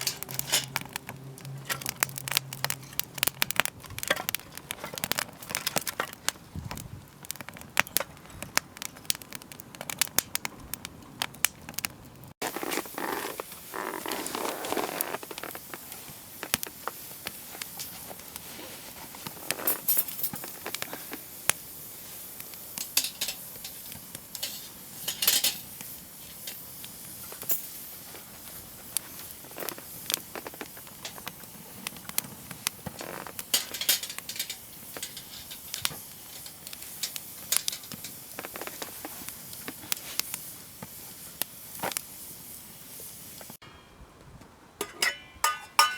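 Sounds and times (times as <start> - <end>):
rustling and handling noise: 0.0 - 9.0, 11.6 - 43.6
campfire crackling and popping: 0.0 - 43.6.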